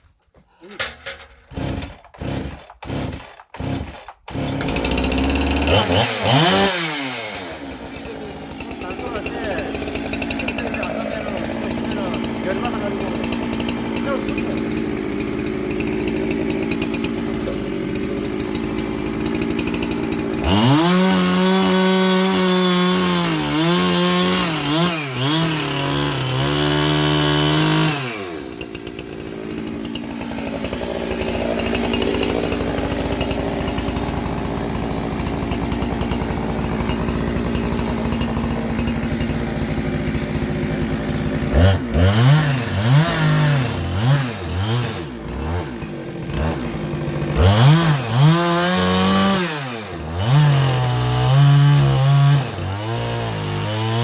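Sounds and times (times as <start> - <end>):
chainsaw idling and revving: 1.5 - 54.0.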